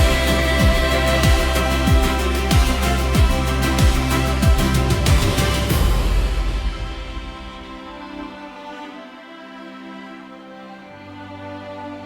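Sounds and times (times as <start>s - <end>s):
soft string-like instrumental music: 0.0s - 12.0s.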